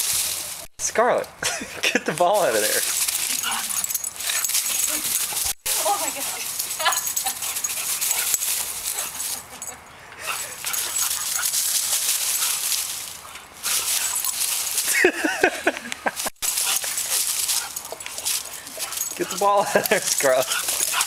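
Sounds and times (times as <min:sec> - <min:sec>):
rustling of dry leaves and twigs: 0:00.0 - 0:21.0.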